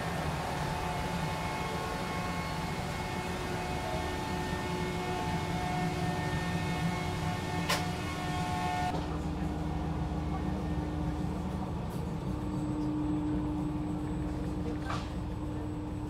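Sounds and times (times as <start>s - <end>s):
train rumble and hum: 0.0s - 16.0s.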